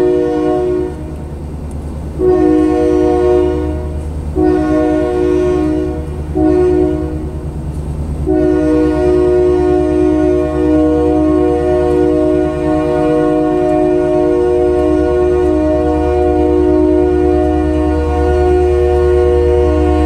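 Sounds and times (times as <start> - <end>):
locomotive air horn blasts: 0.0 - 1.2, 2.2 - 7.5, 8.2 - 20.0
freight cars rumbling past: 0.0 - 20.0.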